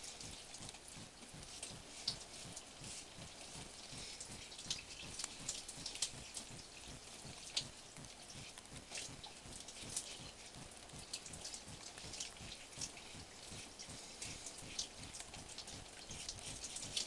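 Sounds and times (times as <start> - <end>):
water dripping and splattering: 0.0 - 17.0.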